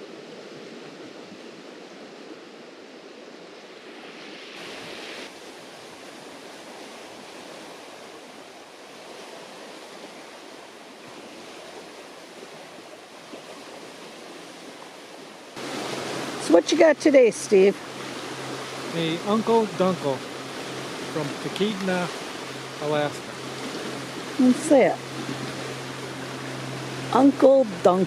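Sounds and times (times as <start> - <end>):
mountain creek rushing: 0.0 - 28.0.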